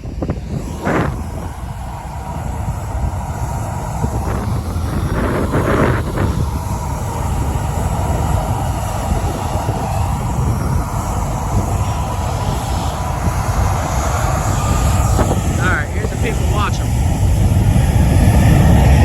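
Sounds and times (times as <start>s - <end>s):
faint jet engine whine: 0.0s - 19.0s
jet engine rumble: 0.0s - 19.0s
wind buffeting microphone: 0.0s - 19.0s.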